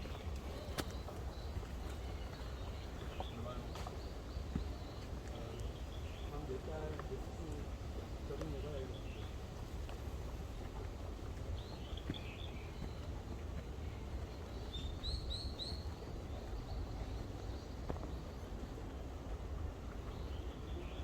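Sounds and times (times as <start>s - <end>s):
birds chirping: 0.0s - 9.5s, 11.4s - 21.0s.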